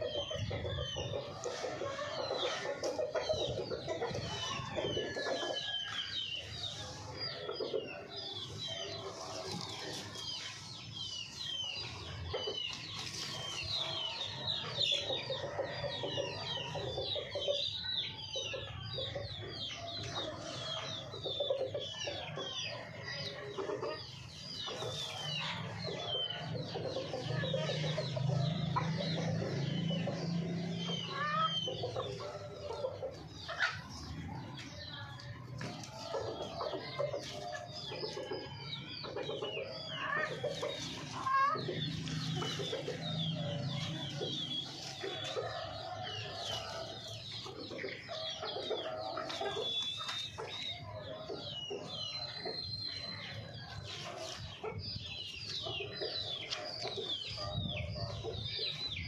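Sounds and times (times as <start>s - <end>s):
hens clucking: 0.0s - 59.0s.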